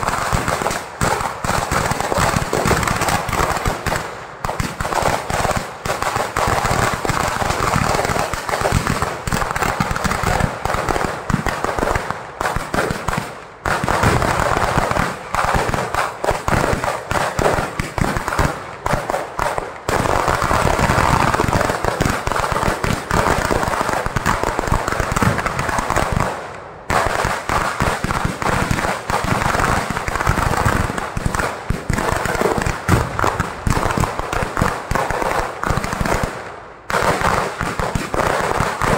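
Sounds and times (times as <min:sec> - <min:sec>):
firecrackers banging and crackling: 0:00.0 - 0:38.9.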